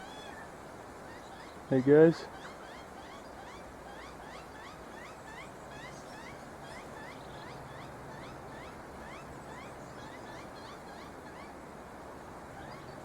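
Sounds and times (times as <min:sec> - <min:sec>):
magpie chick begging calls: 0:01.1 - 0:11.6.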